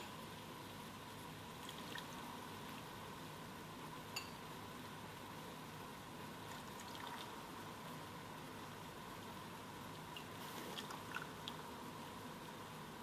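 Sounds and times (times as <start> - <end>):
syrup bubbling in a saucepan: 0.0 - 13.0.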